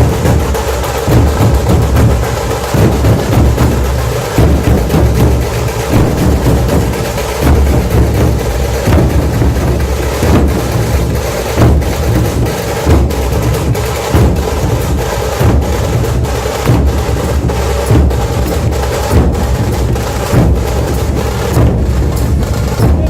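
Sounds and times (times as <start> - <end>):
barrel drums heavy beat: 0.0 - 23.0
fast drum rattle: 0.0 - 23.0.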